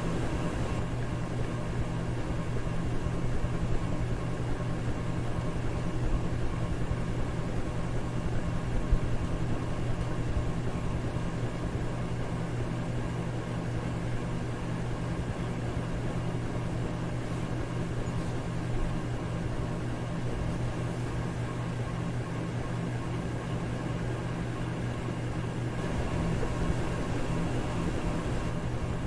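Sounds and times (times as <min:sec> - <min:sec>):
electric fan air rush: 0:00.0 - 0:29.0
low motor hum: 0:00.0 - 0:29.0.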